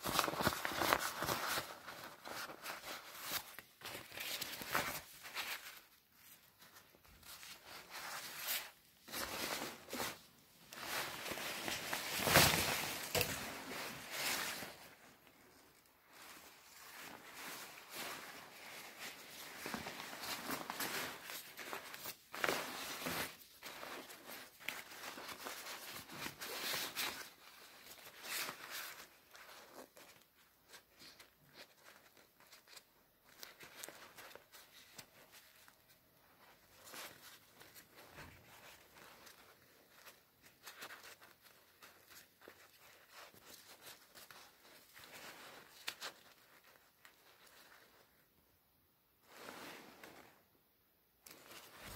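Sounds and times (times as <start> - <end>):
plastic raincoat crinkling: 0.0 - 50.6, 51.2 - 51.9.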